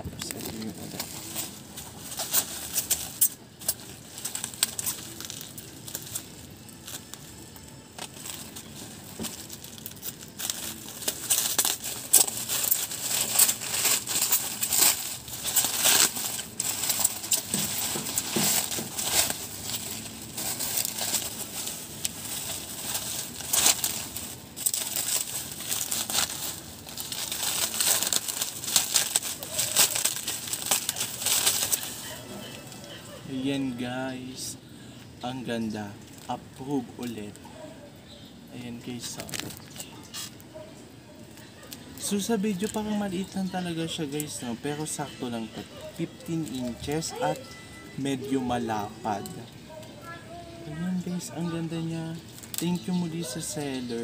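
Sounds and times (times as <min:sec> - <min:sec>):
plastic packaging crinkling: 0:00.0 - 0:33.2, 0:38.2 - 0:54.0.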